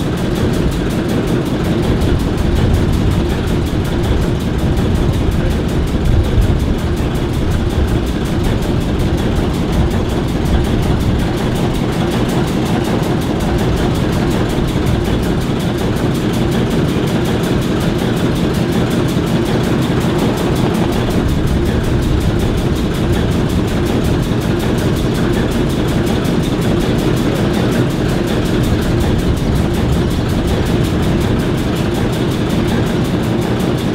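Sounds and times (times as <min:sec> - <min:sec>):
diesel locomotives idling: 0:00.0 - 0:33.9.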